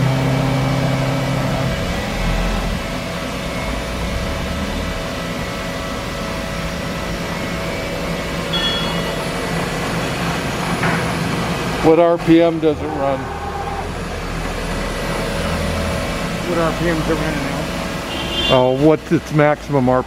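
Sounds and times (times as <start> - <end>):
milling machine humming: 0.0 - 20.0.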